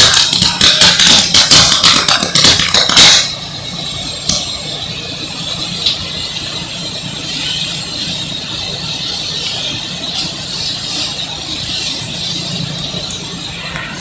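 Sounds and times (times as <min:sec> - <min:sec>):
transformer crackling and popping: 0:00.0 - 0:14.0.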